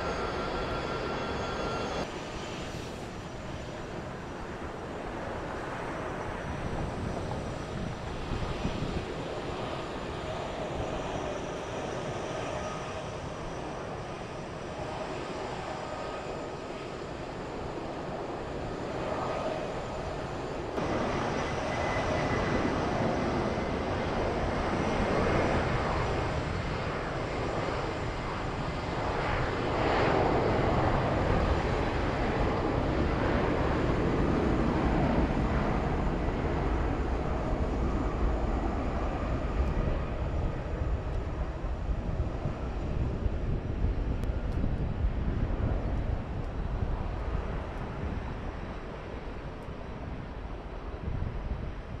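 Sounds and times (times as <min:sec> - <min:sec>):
jet engines roaring: 0:00.0 - 0:52.0.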